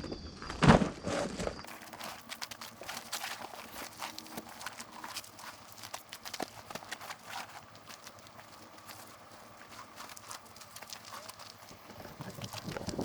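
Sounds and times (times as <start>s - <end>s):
footsteps crunching on gravel: 1.6s - 13.0s.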